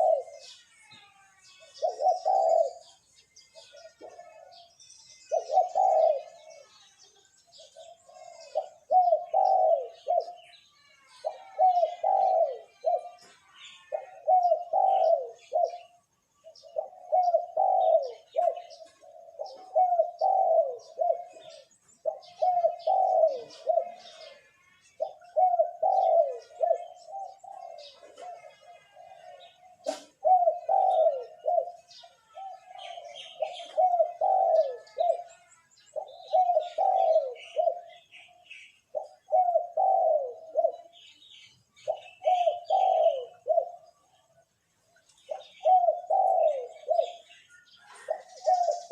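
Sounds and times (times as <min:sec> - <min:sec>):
dove cooing: 0:00.0 - 0:00.6, 0:01.5 - 0:06.8, 0:07.5 - 0:44.4, 0:45.1 - 0:48.9
small birds chirping: 0:00.0 - 0:48.9.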